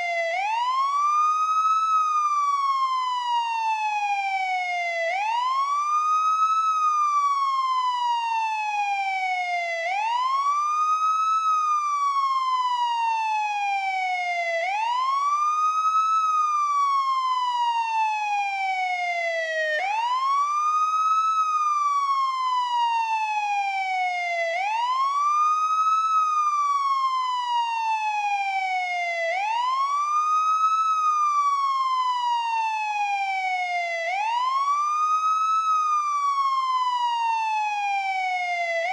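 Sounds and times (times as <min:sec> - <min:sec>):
police siren wail: 0:00.0 - 0:38.9.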